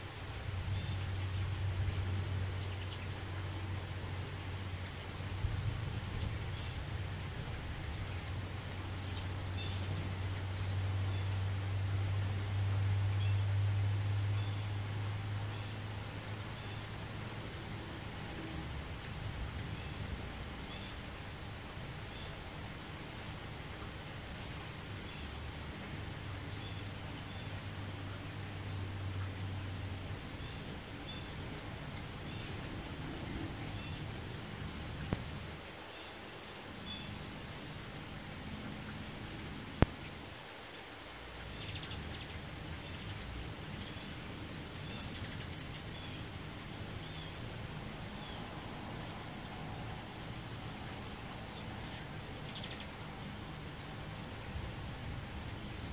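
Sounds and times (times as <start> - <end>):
hummingbird chips and chatters: 0.1 - 55.9.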